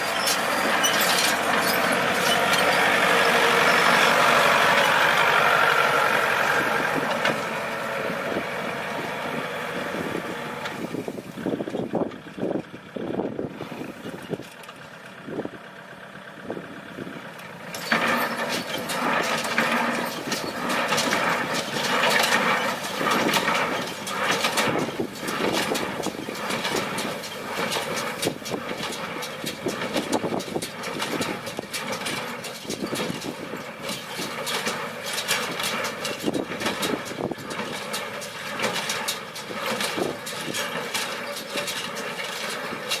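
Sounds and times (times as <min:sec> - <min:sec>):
tractor engine clattering: 0:00.0 - 0:43.0.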